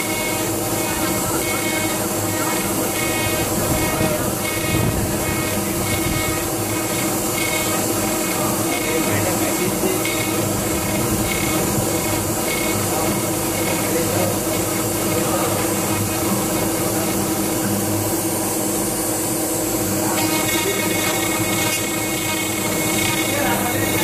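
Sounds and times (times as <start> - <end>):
cnc router cutting wood: 0.0 - 24.0.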